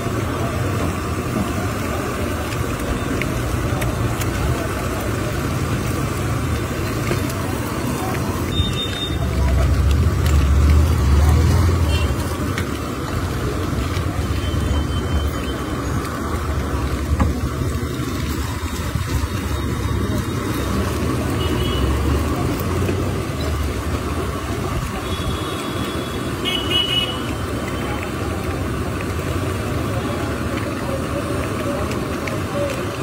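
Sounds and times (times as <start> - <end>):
street traffic rumble: 0.0 - 33.0.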